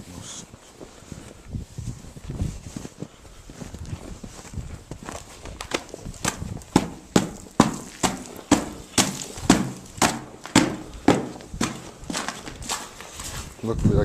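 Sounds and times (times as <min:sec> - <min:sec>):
footsteps crunching through snow: 0:00.0 - 0:14.0.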